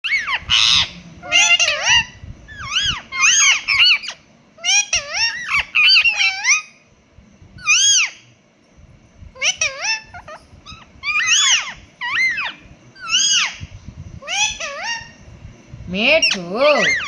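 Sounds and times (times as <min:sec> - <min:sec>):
parrot meow-like calls: 0:00.0 - 0:06.7, 0:07.6 - 0:08.2, 0:09.4 - 0:15.2, 0:16.2 - 0:17.0.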